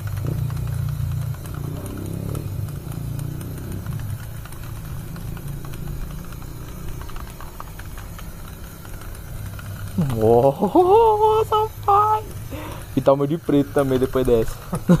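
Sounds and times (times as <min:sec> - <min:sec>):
aerosol spray can hissing: 0:00.0 - 0:15.0
low engine rumble: 0:00.0 - 0:15.0.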